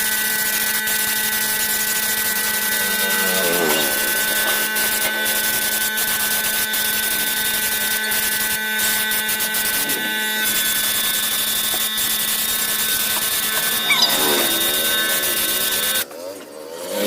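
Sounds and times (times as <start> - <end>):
machine motor whirring: 0.0 - 16.0.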